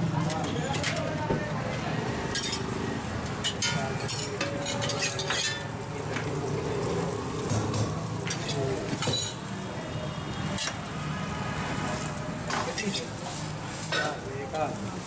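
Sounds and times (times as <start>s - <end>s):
buns sizzling on a griddle: 0.0s - 15.0s.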